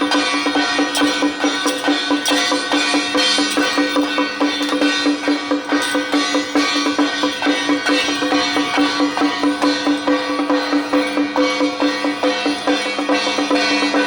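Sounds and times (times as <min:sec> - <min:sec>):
drums beating quick rhythm: 0:00.0 - 0:14.0.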